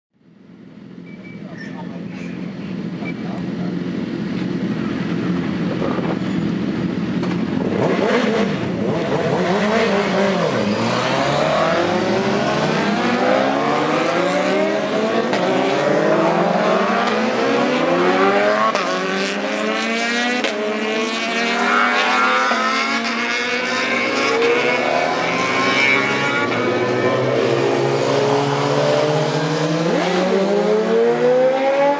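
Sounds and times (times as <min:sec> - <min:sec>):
racing motorcycle engines revving: 0:00.5 - 0:31.9.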